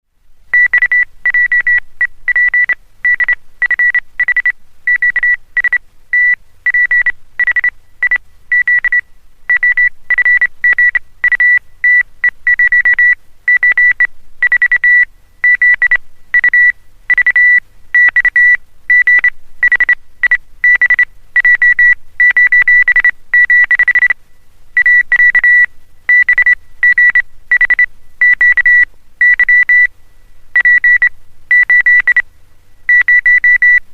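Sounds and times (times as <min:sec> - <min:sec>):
morse code beeps: 0:00.6 - 0:24.2, 0:24.8 - 0:29.9, 0:30.6 - 0:32.2, 0:32.9 - 0:33.8.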